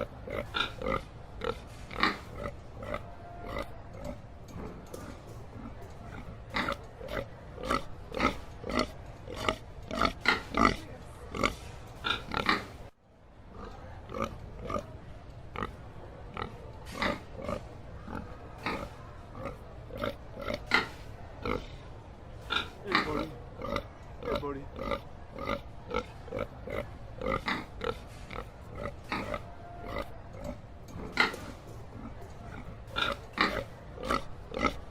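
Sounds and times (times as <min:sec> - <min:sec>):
pigs grunting: 0:00.0 - 0:12.9, 0:13.5 - 0:34.9.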